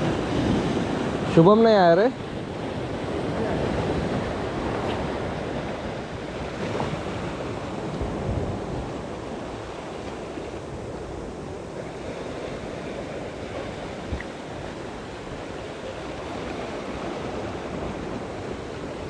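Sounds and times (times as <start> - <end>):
wind rumbling on microphone: 0.0 - 1.5, 2.1 - 19.0
sea surf washing over rocks: 0.0 - 19.0.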